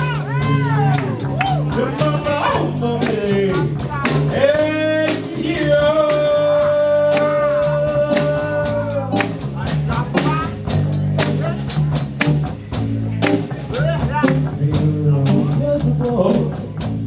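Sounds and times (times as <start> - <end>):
bass line: 0.0 - 17.0
lead melody bending: 0.0 - 17.0
live jazz band playing: 0.0 - 17.0.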